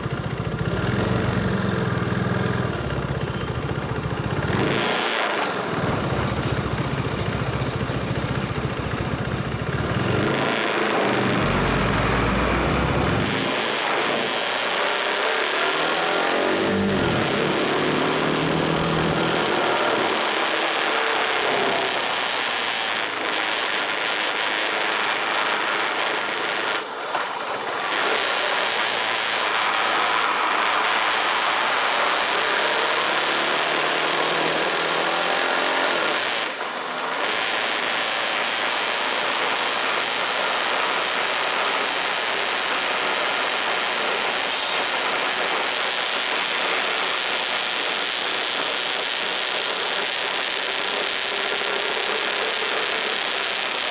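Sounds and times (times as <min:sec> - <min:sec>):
motorcycle engine: 0:00.0 - 0:53.9.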